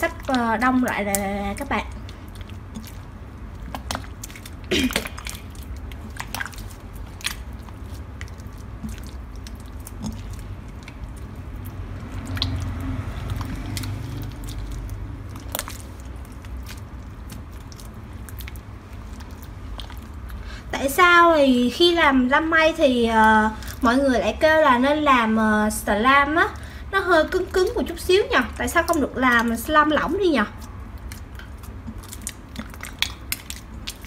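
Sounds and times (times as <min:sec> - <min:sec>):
slime squelching by hand: 0:00.0 - 0:34.0.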